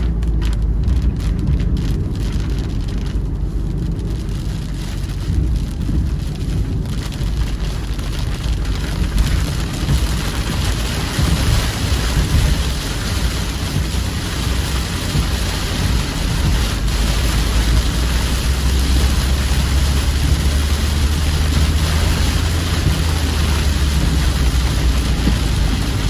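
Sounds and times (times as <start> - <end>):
heavy rain pouring: 0.0 - 26.0
steady low rumble: 0.0 - 26.0.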